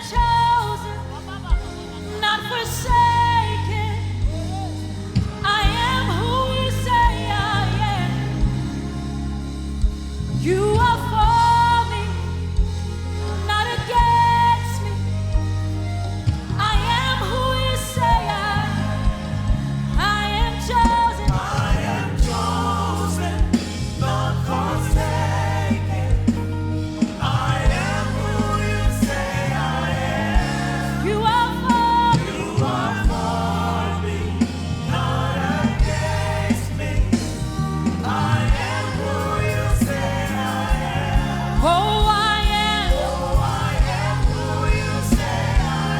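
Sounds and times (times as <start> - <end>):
gospel singing with instruments: 0.0 - 45.9.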